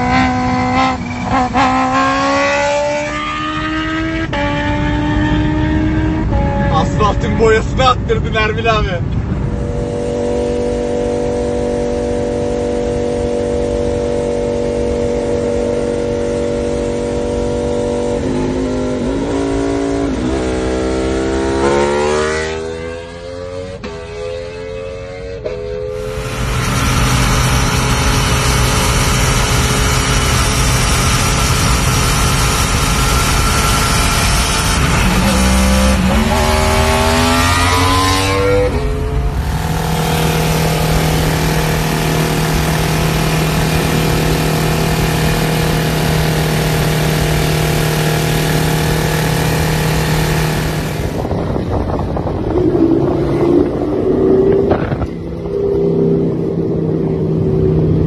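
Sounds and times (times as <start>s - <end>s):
motorcycle engine revving: 0.0s - 7.3s, 9.3s - 58.0s
quieter motorcycle engine wavering: 9.2s - 58.0s.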